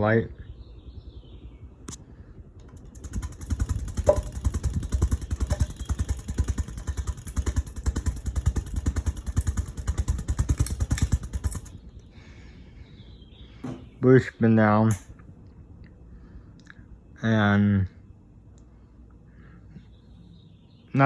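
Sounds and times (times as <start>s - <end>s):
ceiling fan air buffeting microphone: 0.0s - 21.0s.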